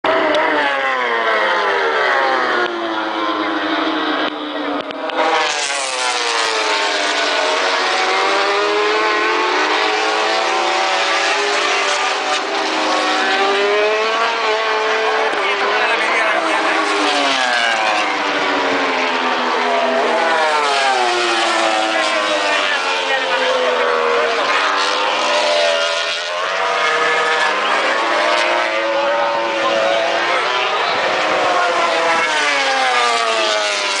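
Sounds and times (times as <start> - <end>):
motorcycle engine at high revs: 0.1 - 34.0.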